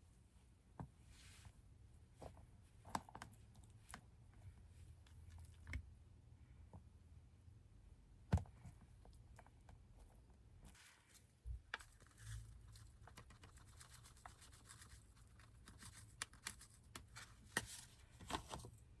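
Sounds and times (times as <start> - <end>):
faint rustling and scratching: 0.4 - 5.6, 8.6 - 19.0.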